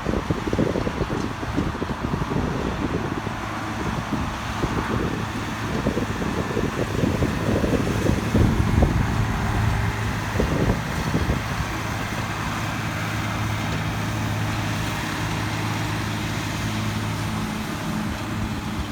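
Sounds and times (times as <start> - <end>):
vehicle engine humming: 0.1 - 18.9.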